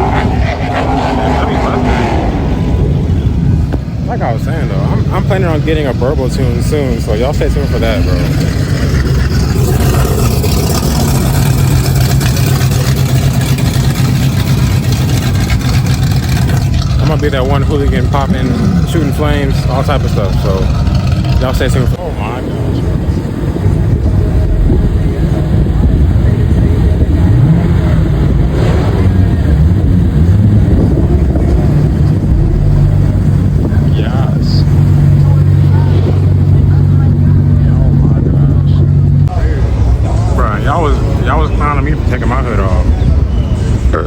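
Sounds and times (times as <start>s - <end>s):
car engine running: 0.0s - 44.0s.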